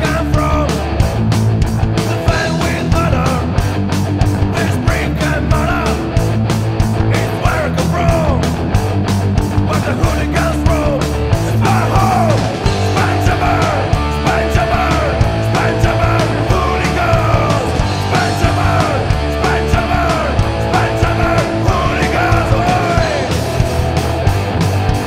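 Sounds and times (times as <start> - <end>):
punk rock song: 0.0 - 25.0.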